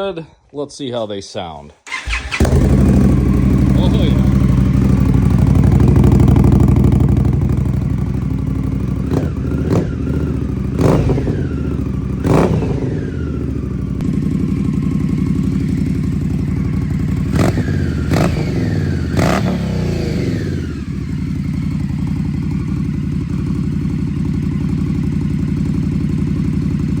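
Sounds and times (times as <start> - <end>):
motorcycle engine idling and revving: 1.9 - 27.0.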